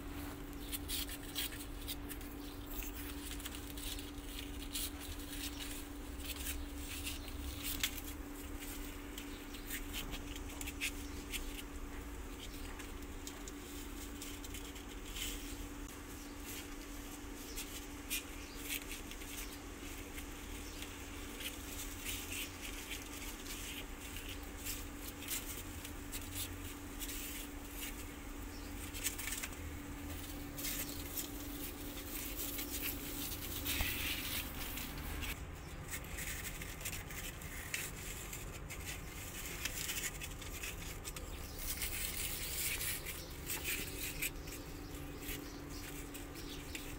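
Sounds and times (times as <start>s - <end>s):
kittens scratching on cardboard: 0.0s - 46.9s
steady low hum: 0.0s - 46.9s.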